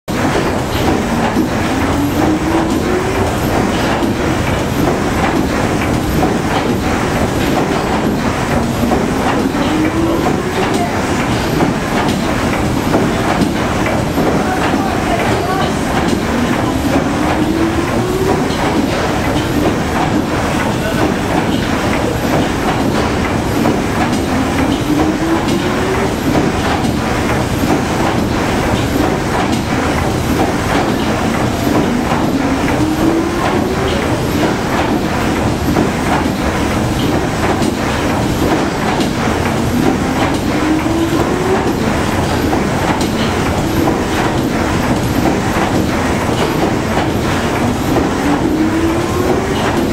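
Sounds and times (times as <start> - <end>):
steam engine clatter: 0.1 - 49.9.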